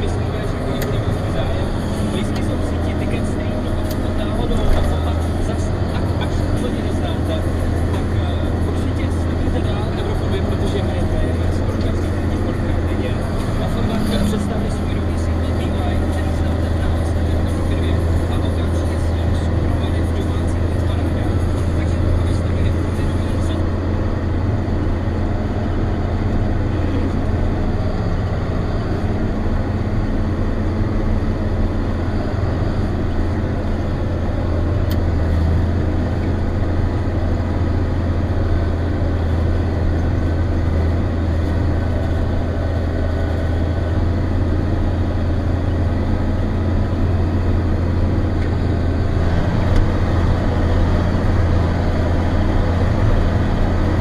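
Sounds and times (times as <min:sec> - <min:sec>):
tractor diesel engine drone: 0:00.0 - 0:54.0.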